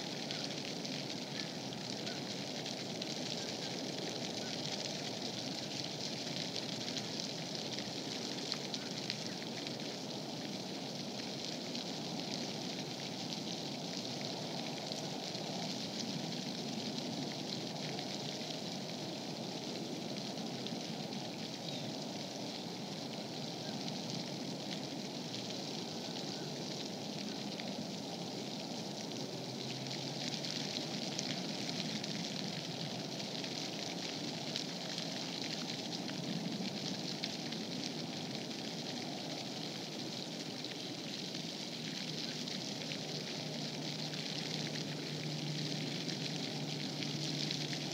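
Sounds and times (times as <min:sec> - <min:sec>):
faint crackling ticks: 0:00.0 - 0:47.9
outdoor background hiss: 0:00.0 - 0:47.9.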